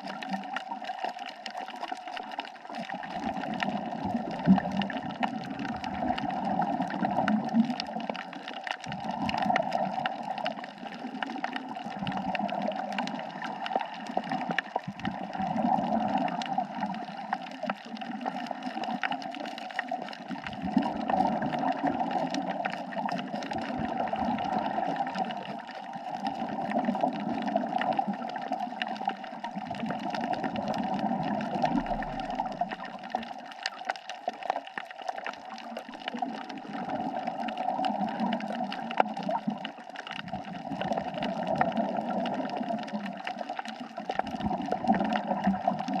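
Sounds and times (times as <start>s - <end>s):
crackle of fine clicks: 0.0s - 46.0s
gurgling bubbles: 0.0s - 46.0s.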